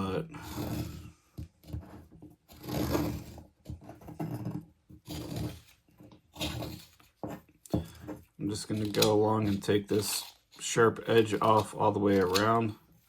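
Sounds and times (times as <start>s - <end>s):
knife carving wood: 0.0s - 13.0s.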